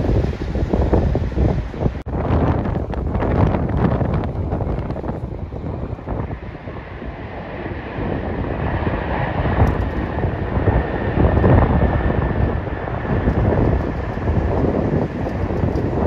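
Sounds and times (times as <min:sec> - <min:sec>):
jet engines rumbling and whining: 0:00.0 - 0:16.0
wind buffeting microphone: 0:00.0 - 0:16.0.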